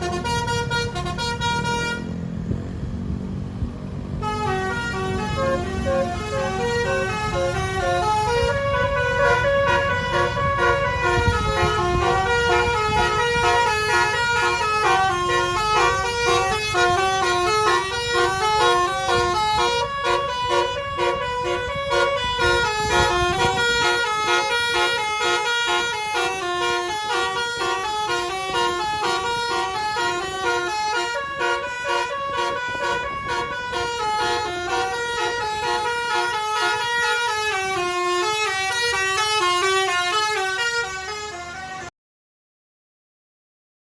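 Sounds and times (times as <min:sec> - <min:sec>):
bus musical horn melody: 0:00.0 - 0:02.4, 0:04.1 - 0:41.9
low vehicle rumble: 0:00.0 - 0:41.9.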